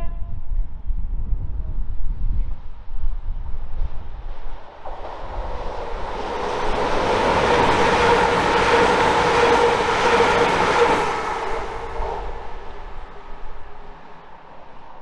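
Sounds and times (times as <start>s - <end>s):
train passing at speed: 2.6s - 15.0s.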